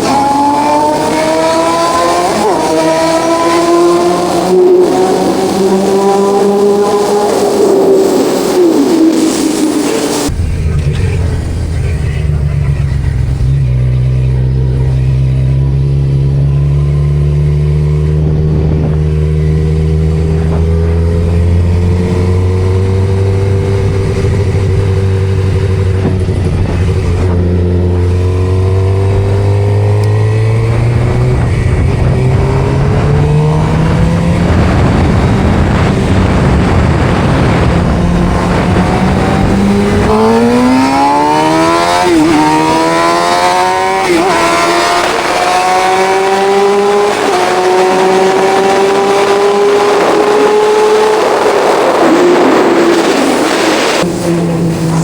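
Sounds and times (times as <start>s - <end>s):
vehicle engine accelerating: 0.0s - 55.0s.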